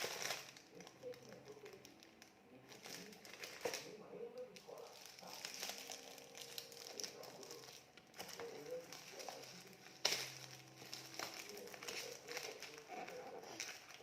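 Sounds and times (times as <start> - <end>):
wrapping paper crinkling: 0.0 - 14.0.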